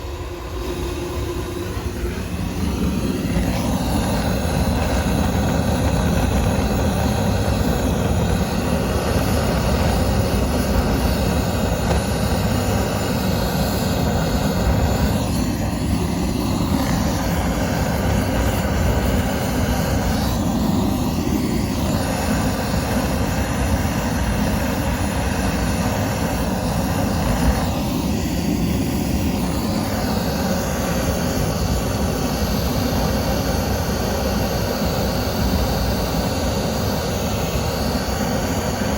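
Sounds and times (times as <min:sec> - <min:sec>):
flame rushing: 0:00.0 - 0:38.9.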